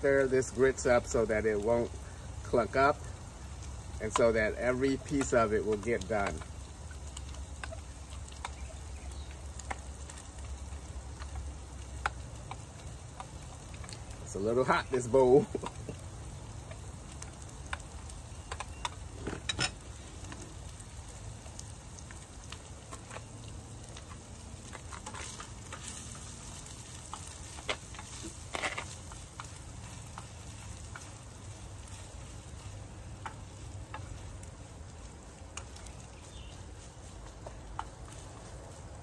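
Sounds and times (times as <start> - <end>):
grits sizzling in a frying pan: 0.0 - 39.0.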